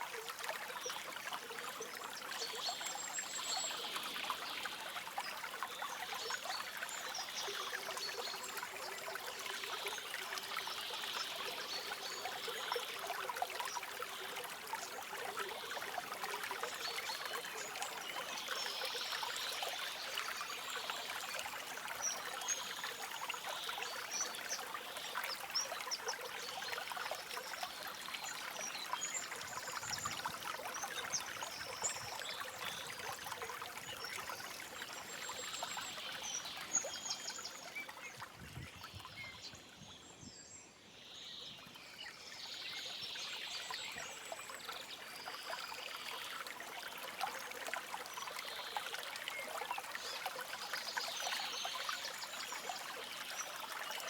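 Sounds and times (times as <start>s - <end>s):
stream babbling over stones: 0.0s - 39.8s, 41.7s - 54.0s.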